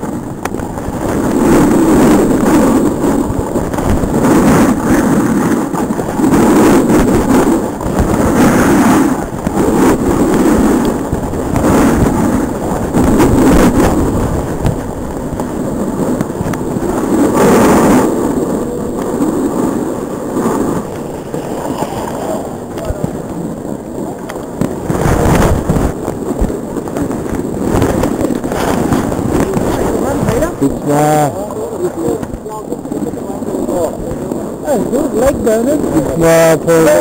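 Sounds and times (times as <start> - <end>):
snowboard scraping snow: 0.0 - 37.0
wind buffeting microphone: 0.0 - 37.0.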